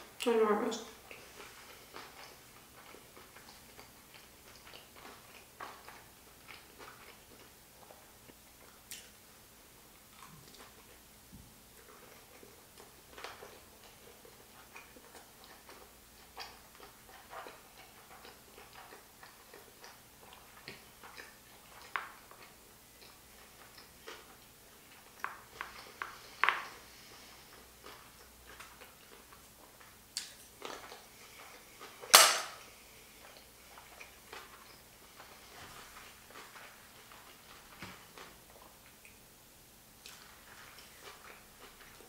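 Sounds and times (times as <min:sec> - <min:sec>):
wet chewing mouth sounds: 0:00.9 - 0:09.2, 0:10.0 - 0:39.3, 0:40.0 - 0:42.0.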